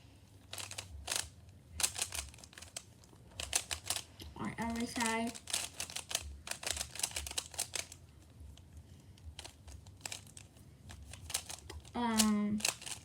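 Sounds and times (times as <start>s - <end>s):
clicks and crinkles: 0.4s - 13.0s.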